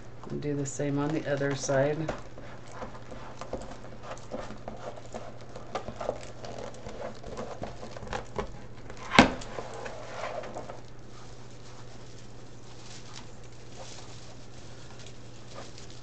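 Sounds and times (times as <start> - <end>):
plastic mesh crinkling: 1.1 - 16.0.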